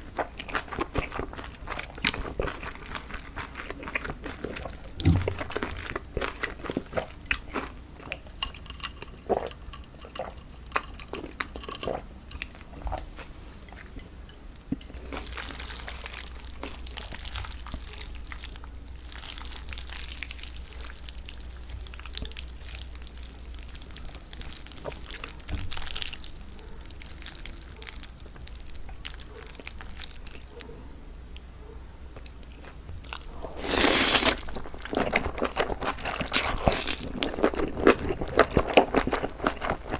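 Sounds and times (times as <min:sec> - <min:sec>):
chewing and crunching: 0:00.0 - 0:30.8, 0:31.4 - 0:39.9.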